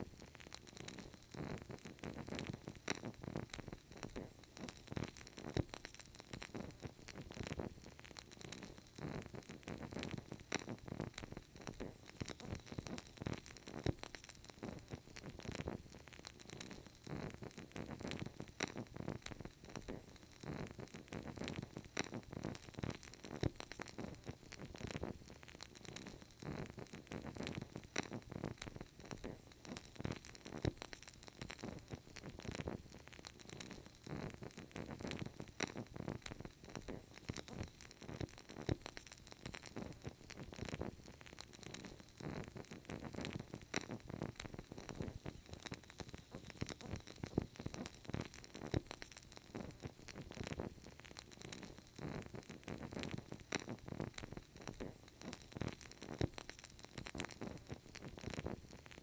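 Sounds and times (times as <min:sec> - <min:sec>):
candle crackling: 0:00.0 - 0:59.0
faint hiss: 0:00.0 - 0:59.0.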